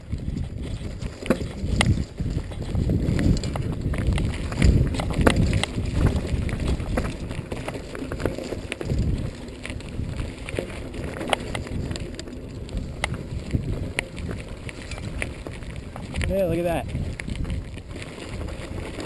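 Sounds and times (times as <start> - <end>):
bike clicks and rattles: 0.0 - 19.0
bike tyres rumbling on dirt: 0.0 - 19.0
wind on microphone: 0.0 - 19.0.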